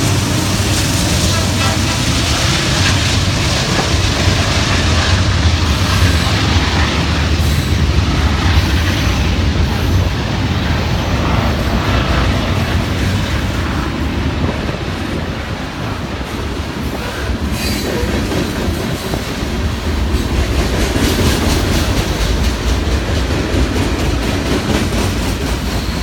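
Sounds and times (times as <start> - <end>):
diesel locomotives droning: 0.0 - 26.0
steel wheels on rails: 0.0 - 26.0.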